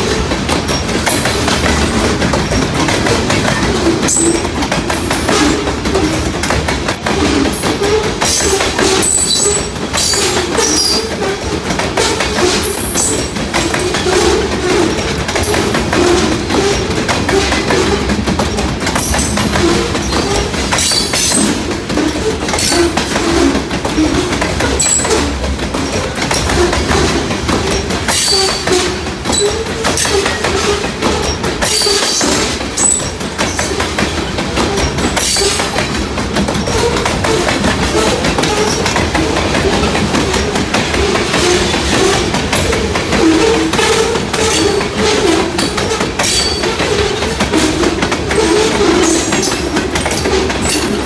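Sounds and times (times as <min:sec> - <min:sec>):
train wheels clattering over rails: 0:00.0 - 0:51.0
wheels squealing: 0:00.0 - 0:51.0.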